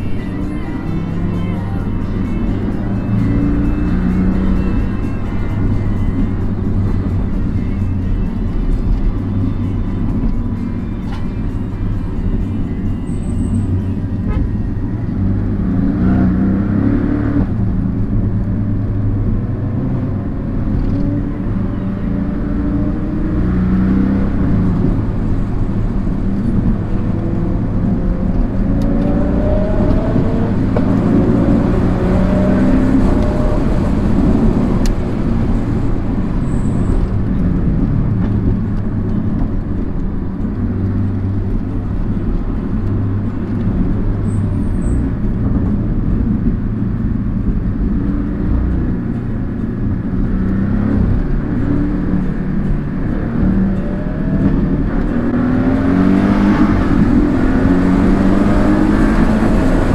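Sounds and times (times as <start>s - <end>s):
car engine running: 0.0s - 59.9s
tyre and road noise: 0.0s - 59.9s.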